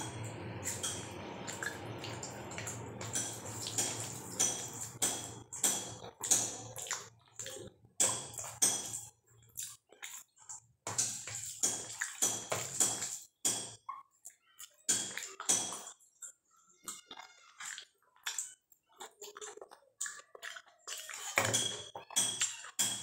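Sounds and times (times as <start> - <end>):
wet chewing and mouth sounds: 0.0 - 23.0.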